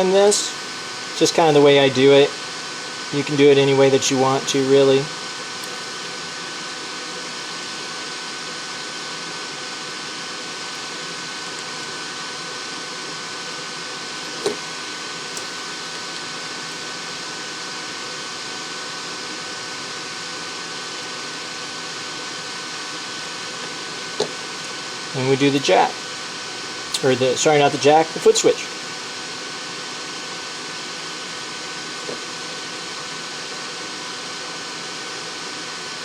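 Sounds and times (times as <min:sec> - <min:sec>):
fan-like hiss: 0:00.0 - 0:36.0
high steady whine: 0:00.0 - 0:36.0.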